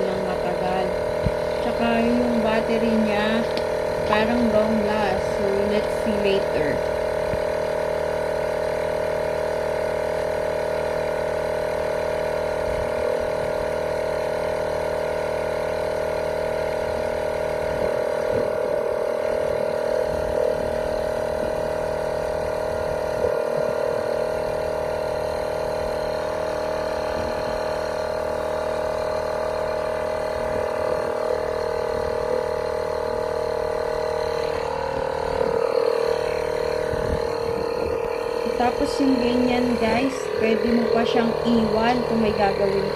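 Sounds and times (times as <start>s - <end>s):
air compressor running: 0.0s - 42.9s.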